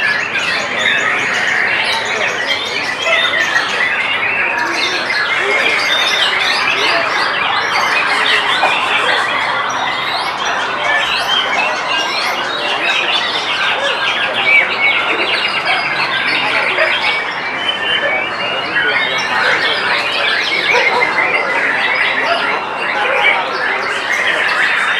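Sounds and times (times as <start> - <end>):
songbirds chorus: 0.0 - 24.9.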